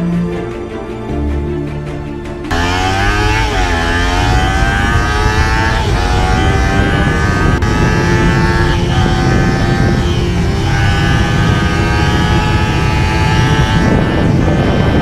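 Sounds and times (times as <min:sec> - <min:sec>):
motorcycle engine accelerating: 0:02.5 - 0:15.0.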